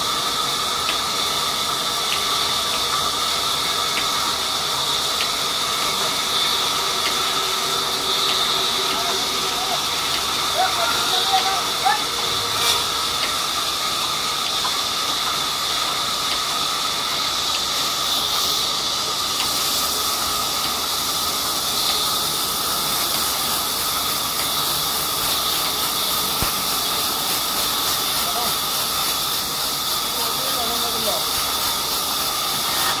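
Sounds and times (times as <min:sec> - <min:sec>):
band saw cutting log: 0:00.0 - 0:33.0.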